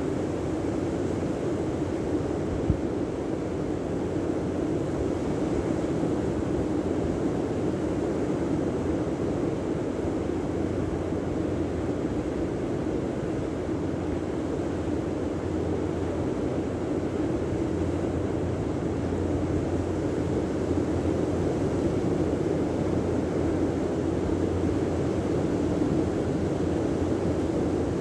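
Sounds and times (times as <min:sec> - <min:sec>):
wind: 0:00.0 - 0:28.0.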